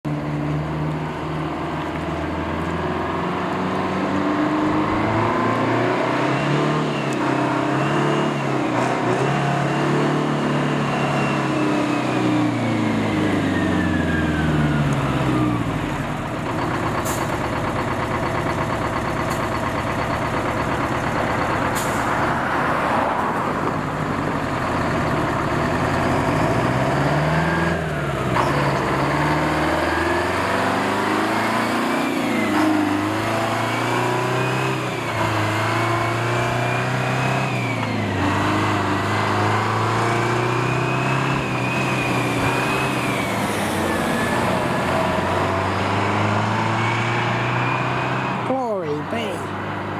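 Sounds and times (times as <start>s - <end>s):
truck diesel engine: 0.0s - 49.9s.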